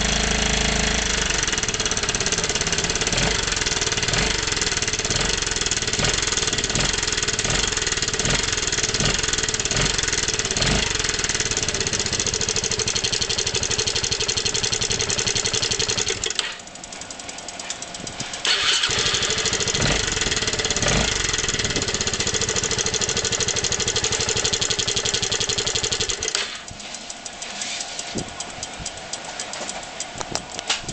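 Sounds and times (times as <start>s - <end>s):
engine knocking: 0.0s - 26.7s
scooter engine running: 0.0s - 26.8s.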